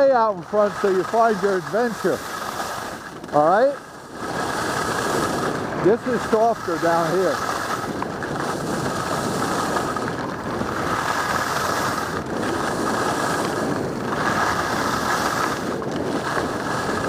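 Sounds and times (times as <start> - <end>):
skis sliding over snow: 0.0 - 17.0
wind on microphone: 0.0 - 17.0.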